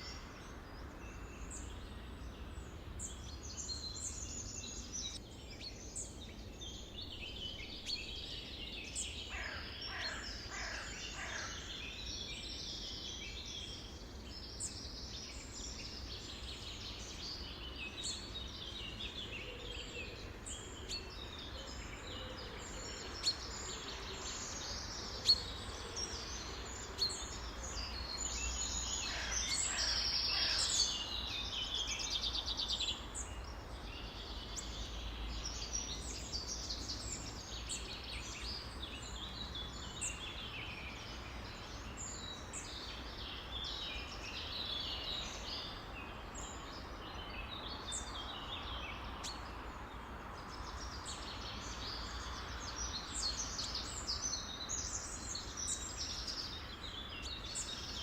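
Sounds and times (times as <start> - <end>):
songbirds chirping in chorus: 0.0 - 58.0.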